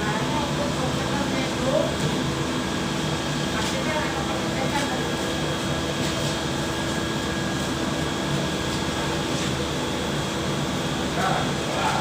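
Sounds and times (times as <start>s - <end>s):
steam boiler mechanical drone: 0.0s - 12.0s.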